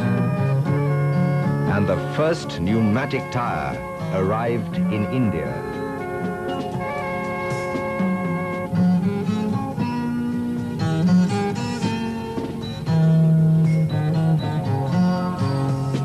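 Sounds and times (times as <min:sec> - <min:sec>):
plucked strings: 0:00.0 - 0:16.0.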